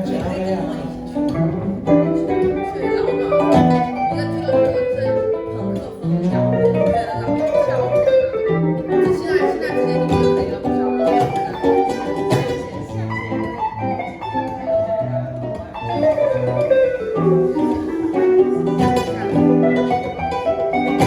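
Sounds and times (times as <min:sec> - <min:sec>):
acoustic guitar strumming chords: 0:00.0 - 0:21.0
electric guitar sliding lead notes: 0:00.0 - 0:21.0.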